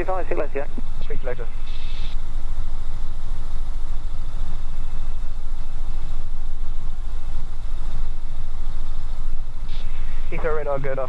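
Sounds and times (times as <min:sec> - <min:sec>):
helicopter rotor and engine noise: 0:00.0 - 0:11.0.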